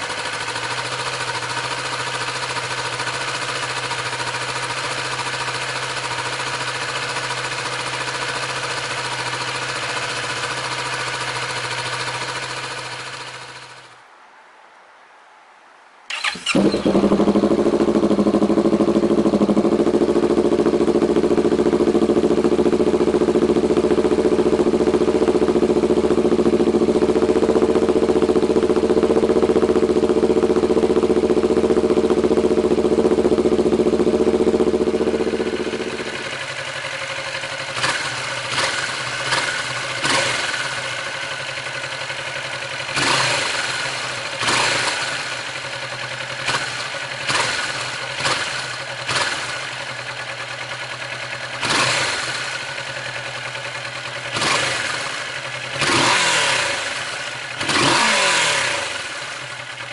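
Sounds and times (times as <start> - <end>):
motorcycle engine idling: 0.0 - 14.0, 16.1 - 59.9.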